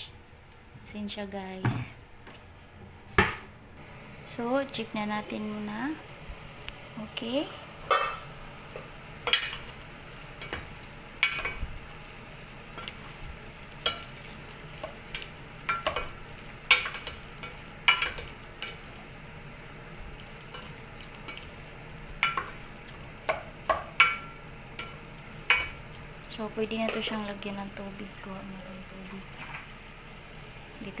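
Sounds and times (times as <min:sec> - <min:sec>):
faint steady sizzle: 0:00.0 - 0:31.0.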